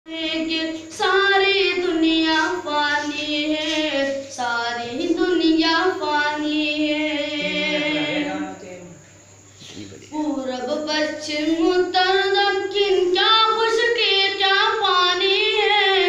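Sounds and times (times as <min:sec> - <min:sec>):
boy singing unaccompanied: 0:00.1 - 0:09.0, 0:09.8 - 0:16.0.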